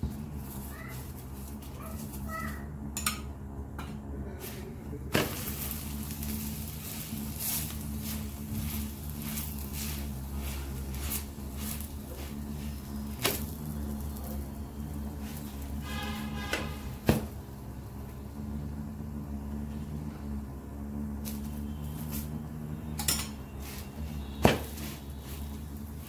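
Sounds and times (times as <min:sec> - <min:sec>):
flatbread sizzling in fat: 0:00.0 - 0:02.7, 0:04.3 - 0:26.0
steady low hum: 0:00.0 - 0:26.0.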